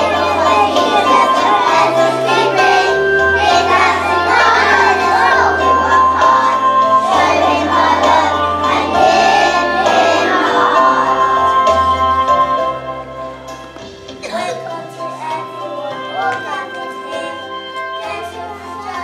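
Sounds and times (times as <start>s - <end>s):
children singing: 0.0s - 12.5s, 14.2s - 19.0s
instrumental accompaniment: 0.0s - 19.0s.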